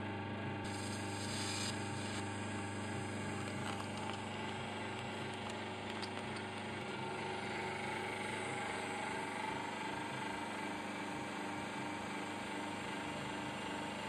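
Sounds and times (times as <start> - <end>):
welding machine electrical hum: 0.0 - 14.0.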